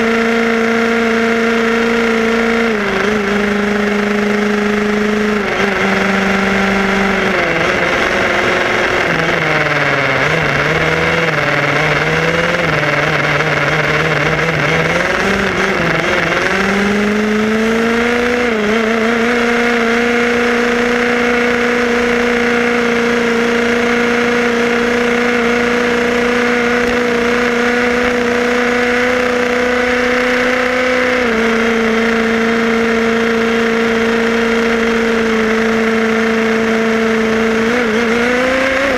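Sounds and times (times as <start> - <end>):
two-stroke engine running: 0.0 - 38.9
wind and road noise: 0.0 - 38.9.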